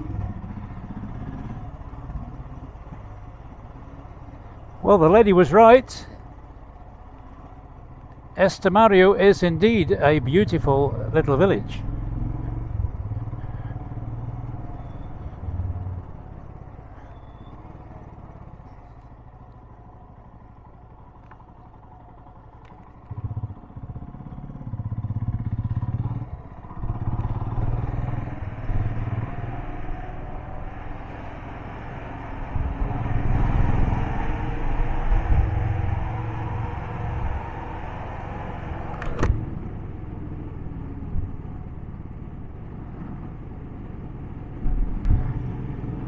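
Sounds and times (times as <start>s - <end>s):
motorcycle engine running: 0.0s - 5.2s, 9.4s - 42.1s.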